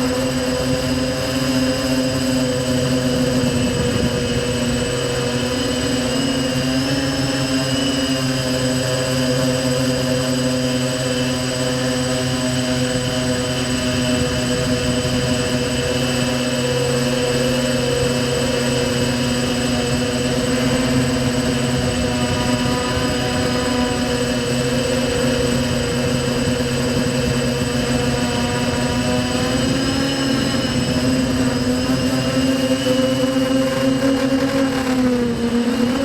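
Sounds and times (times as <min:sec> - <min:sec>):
quadcopter propellers buzzing: 0:00.0 - 0:36.0.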